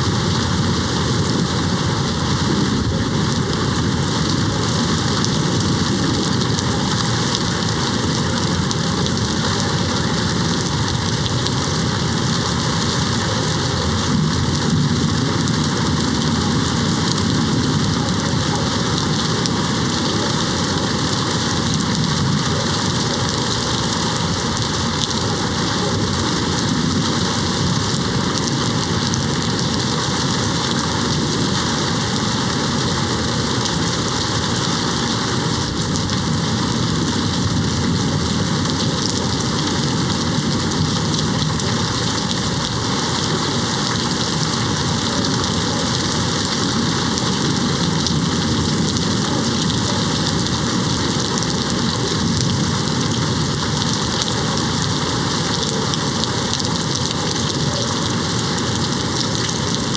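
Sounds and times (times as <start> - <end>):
rain hitting a window: 0.0 - 59.9.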